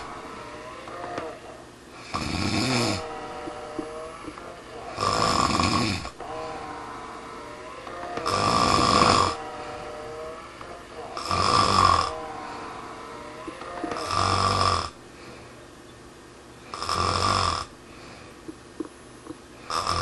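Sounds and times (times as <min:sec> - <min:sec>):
person snoring: 0:00.0 - 0:15.4, 0:16.7 - 0:18.2, 0:19.6 - 0:20.0.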